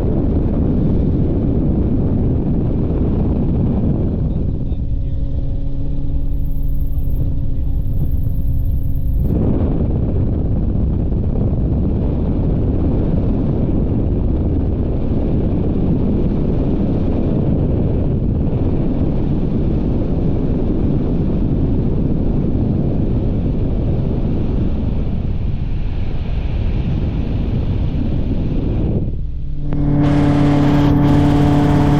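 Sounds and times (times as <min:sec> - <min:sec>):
helicopter engine and rotor hum: 0:00.0 - 0:26.3, 0:26.9 - 0:31.9
wind buffeting microphone: 0:00.0 - 0:31.9.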